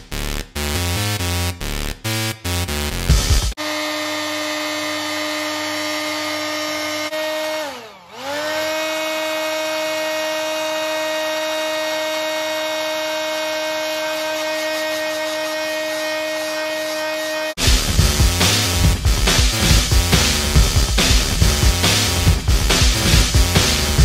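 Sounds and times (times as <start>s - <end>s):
hot-air blower motor humming: 3.6s - 24.0s.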